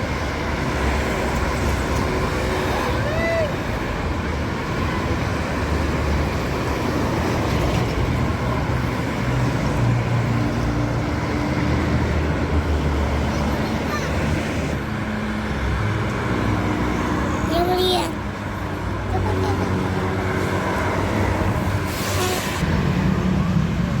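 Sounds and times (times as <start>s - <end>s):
traffic engine and tyre noise: 0.0s - 24.0s.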